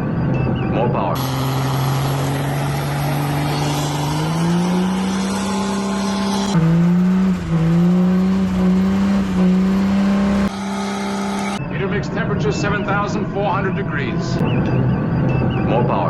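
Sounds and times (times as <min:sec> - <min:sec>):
car engine revving high: 0:00.7 - 0:15.5.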